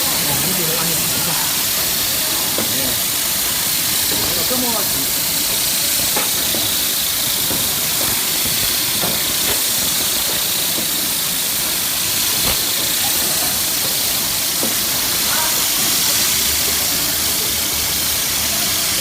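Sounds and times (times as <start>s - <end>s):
industrial machinery hissing: 0.0s - 19.0s.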